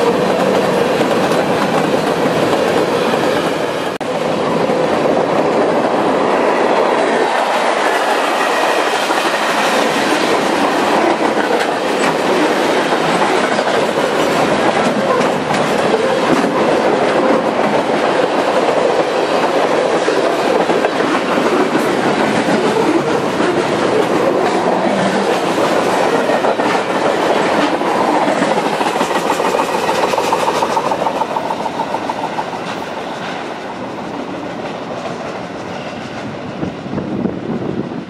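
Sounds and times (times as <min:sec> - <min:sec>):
freight cars rolling on rails: 0:00.0 - 0:38.0.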